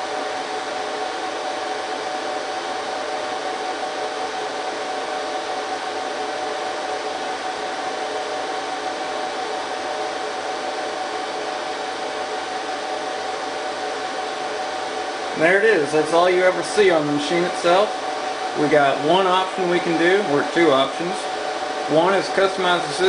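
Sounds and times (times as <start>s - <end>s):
server cooling fans whirring: 0.0s - 23.0s.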